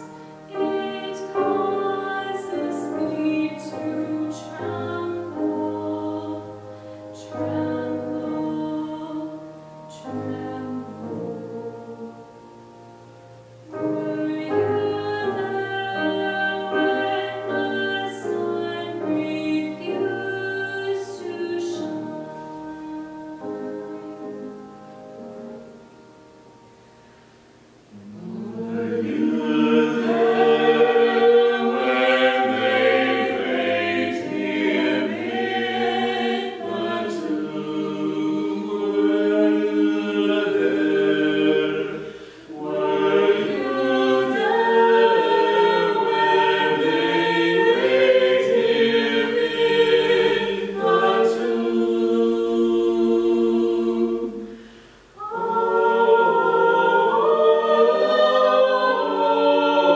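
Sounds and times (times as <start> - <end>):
vocal quartet singing a hymn: 0.0 - 26.1, 27.0 - 59.9.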